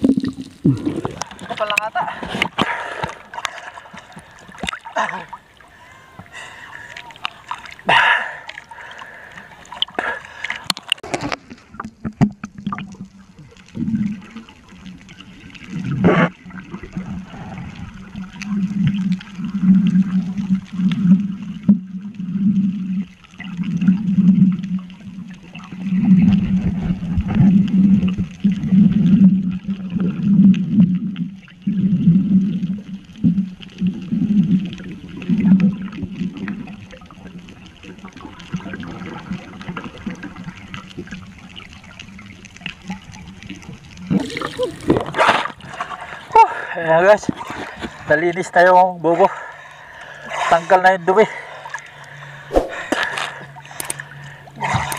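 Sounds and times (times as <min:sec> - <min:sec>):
water splashes: 0:00.0 - 0:54.9.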